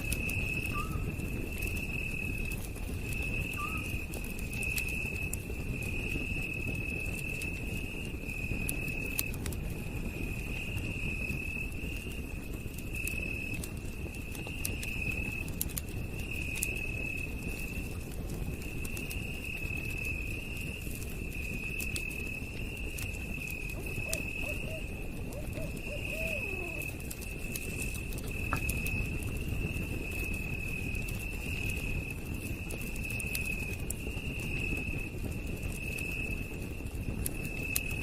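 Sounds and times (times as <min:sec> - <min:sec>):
campfire crackling and popping: 0:00.0 - 0:38.0
night insects trilling: 0:00.0 - 0:38.0.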